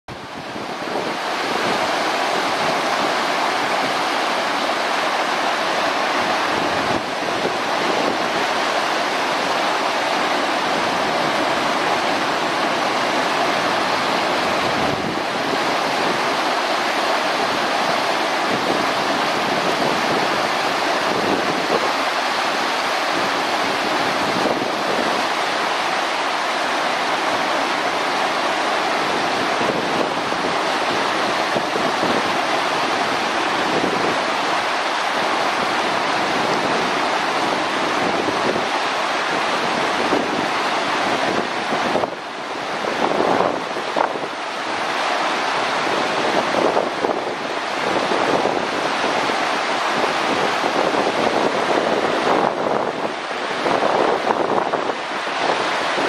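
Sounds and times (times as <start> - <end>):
running water rushing: 0.1 - 56.0.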